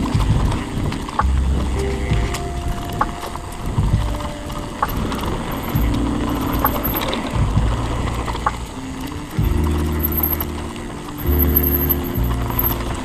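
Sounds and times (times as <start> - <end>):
bike knocking and rattling: 0.0 - 13.0
wind rumbling on microphone: 0.0 - 13.0.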